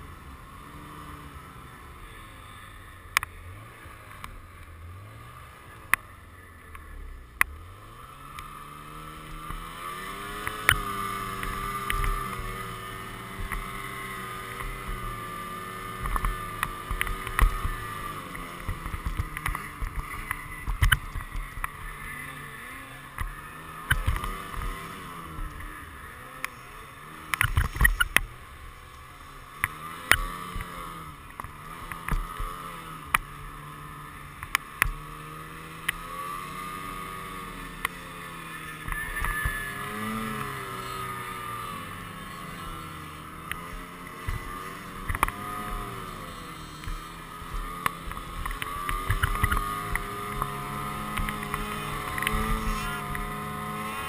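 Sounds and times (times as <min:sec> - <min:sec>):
snowmobile engine under load: 0:00.0 - 0:54.0.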